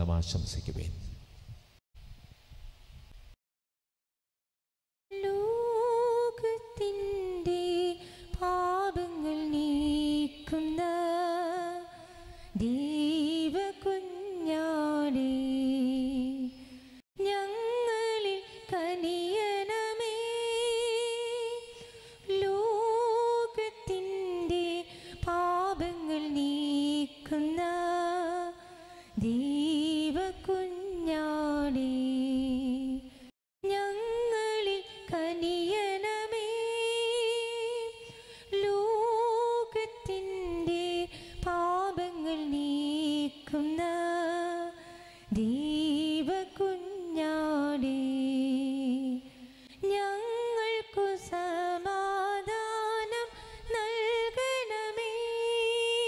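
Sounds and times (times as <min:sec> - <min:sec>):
woman singing a hymn: 0:05.1 - 0:56.0.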